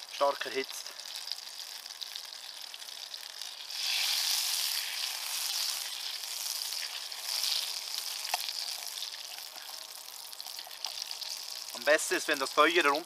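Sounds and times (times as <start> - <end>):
butter sizzling in a pan: 0.0 - 13.0.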